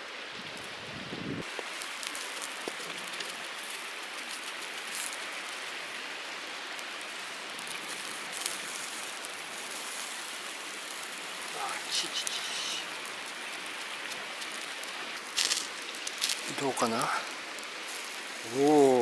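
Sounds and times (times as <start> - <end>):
fire crackling and popping: 0.0 - 19.0
meat sizzling over a fire: 0.0 - 19.0
mountain stream hissing: 0.0 - 19.0.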